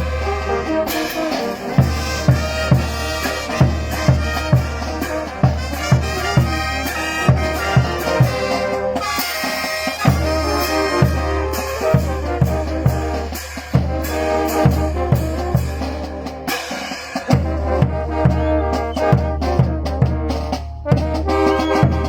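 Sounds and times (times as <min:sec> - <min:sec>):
bass drum beat: 0:00.0 - 0:09.2, 0:10.0 - 0:16.3, 0:17.3 - 0:22.0
brass instruments playing: 0:00.0 - 0:22.0.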